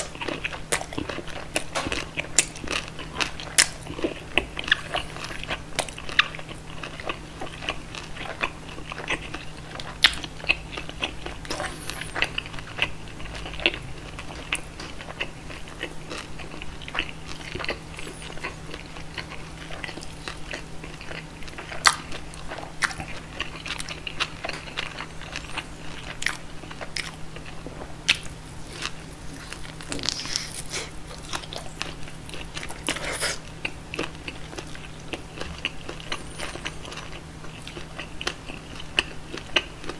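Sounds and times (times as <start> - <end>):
person chewing meat: 0.0 - 39.9.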